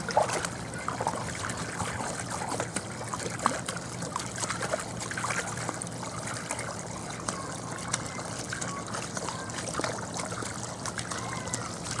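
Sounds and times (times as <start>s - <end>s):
hose water running into pool: 0.0s - 12.0s.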